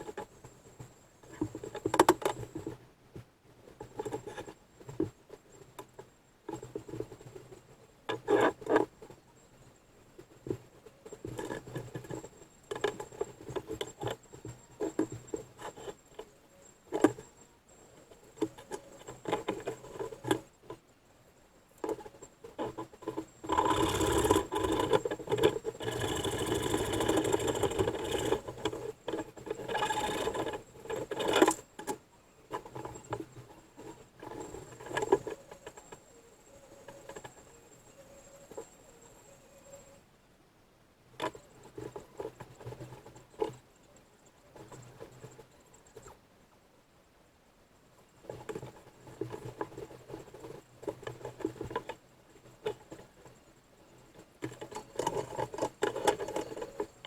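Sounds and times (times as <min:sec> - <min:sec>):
continuous rasping: 0:03.7 - 0:20.9, 0:21.7 - 0:39.9, 0:41.2 - 0:46.2, 0:48.2 - 0:57.0.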